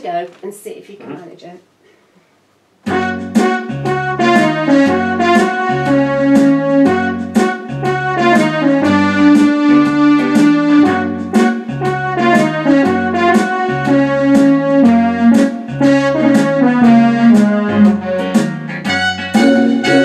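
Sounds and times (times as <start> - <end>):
electronic keyboard playing blues: 2.8 - 20.0.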